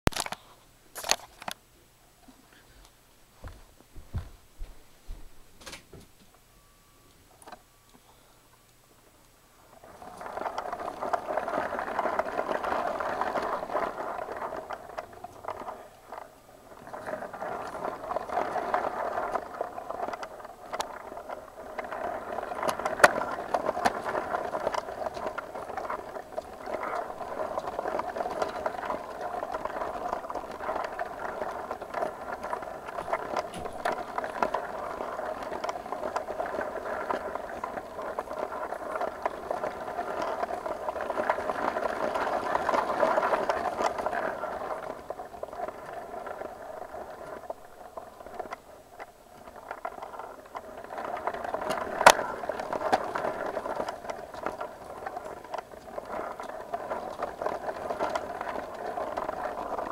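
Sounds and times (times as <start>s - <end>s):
toy train motor whirring on track: 9.7s - 59.9s.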